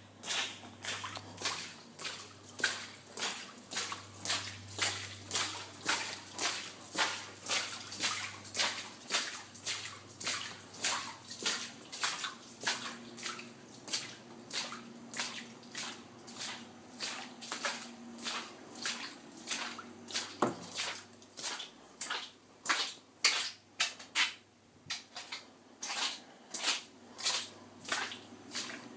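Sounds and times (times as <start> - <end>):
water splashing rhythmically: 0.0 - 28.9.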